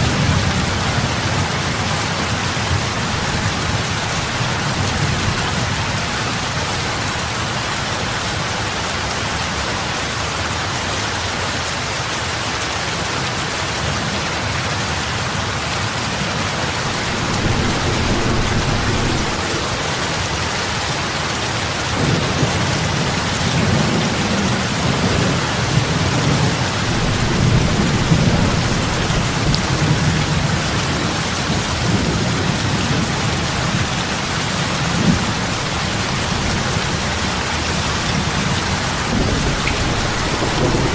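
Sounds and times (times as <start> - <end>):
heavy rain on water: 0.0 - 40.9.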